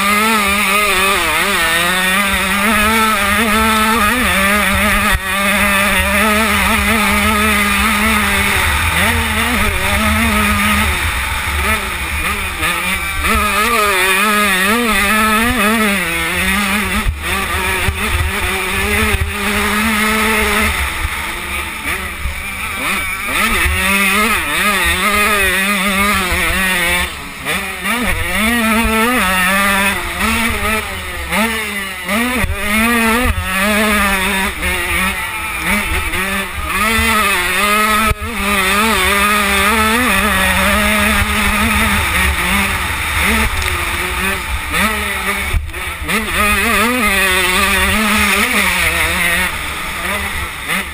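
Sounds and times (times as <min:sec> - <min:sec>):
motocross engine revving: 0:00.0 - 0:50.9.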